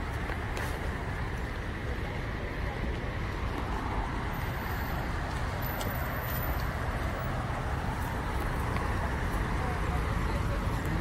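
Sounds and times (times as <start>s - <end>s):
vehicle road noise rumble: 0.0s - 11.0s.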